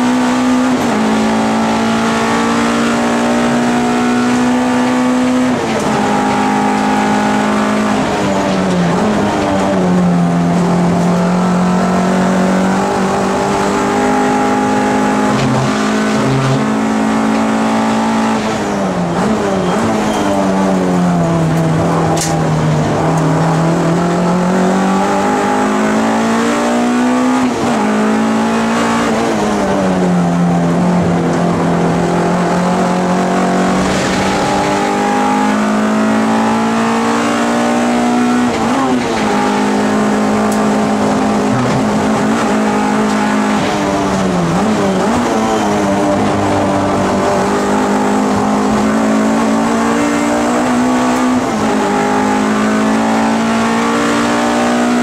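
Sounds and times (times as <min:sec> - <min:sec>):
race car engine: 0:00.0 - 0:55.0
road and wind noise: 0:00.0 - 0:55.0.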